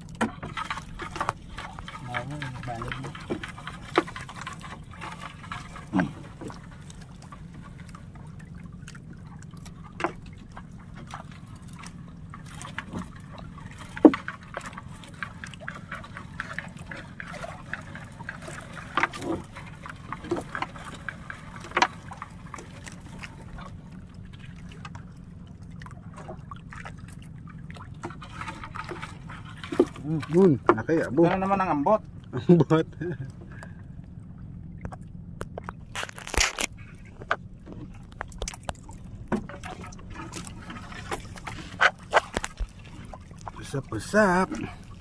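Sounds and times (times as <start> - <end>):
water dripping and splashing: 0.0 - 32.3, 33.5 - 45.0.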